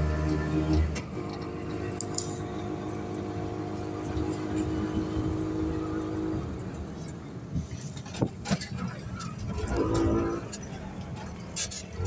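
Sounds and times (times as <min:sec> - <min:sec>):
auto-rickshaw engine running: 0:00.0 - 0:12.0
road noise: 0:00.0 - 0:12.0.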